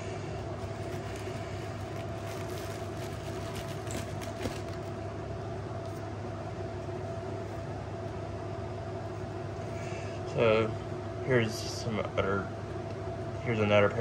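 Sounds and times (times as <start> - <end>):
mechanical hum with tone: 0.0 - 14.0.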